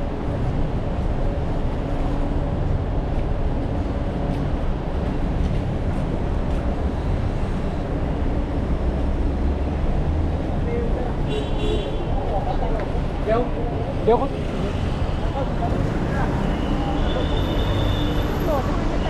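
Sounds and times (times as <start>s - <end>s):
vehicle rumble: 0.0s - 11.3s, 12.0s - 19.0s.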